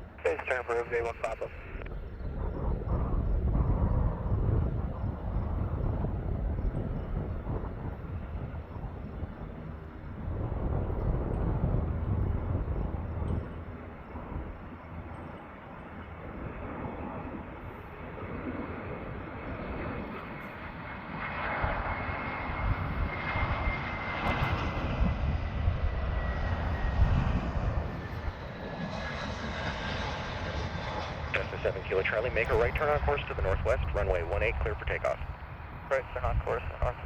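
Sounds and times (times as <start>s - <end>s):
jet engine rumble: 0.0s - 37.0s
jet engine whine: 0.0s - 37.0s.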